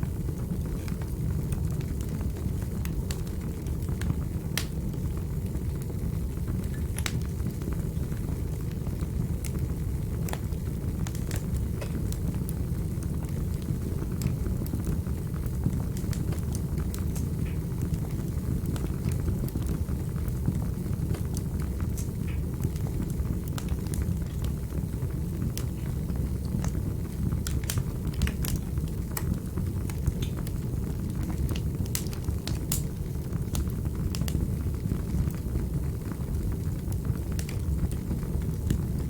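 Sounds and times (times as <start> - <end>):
wood fire burning: 0.0 - 39.0.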